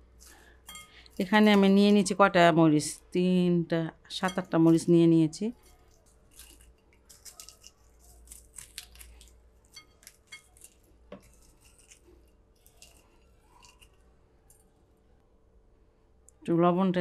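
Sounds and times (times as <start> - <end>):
dry chilies crackling: 0.0 - 3.1, 4.1 - 14.8.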